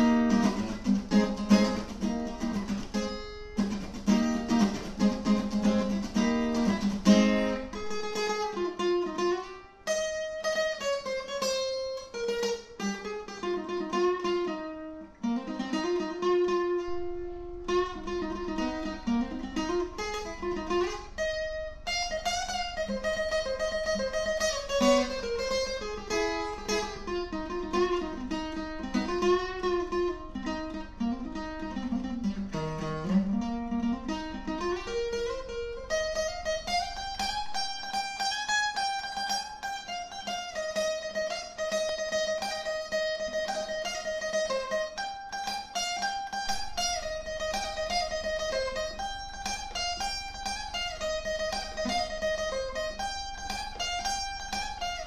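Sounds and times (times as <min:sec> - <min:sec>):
acoustic guitar playing: 0:00.0 - 0:55.0.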